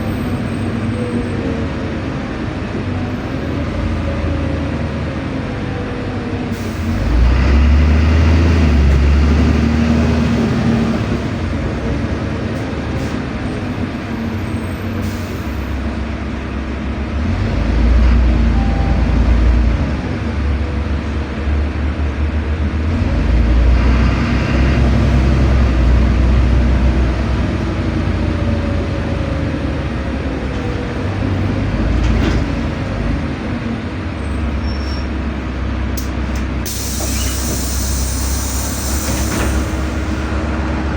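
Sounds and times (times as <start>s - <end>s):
bus engine rumbling inside cabin: 0.0s - 40.9s.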